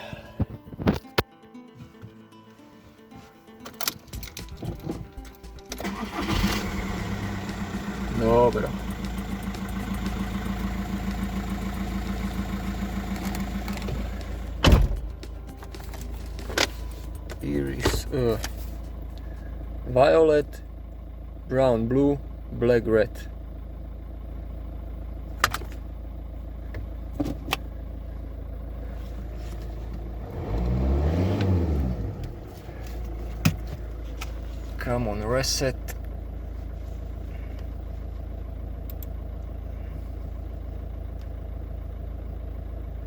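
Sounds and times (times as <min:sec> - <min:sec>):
diesel engine idling: 0:05.1 - 0:43.0.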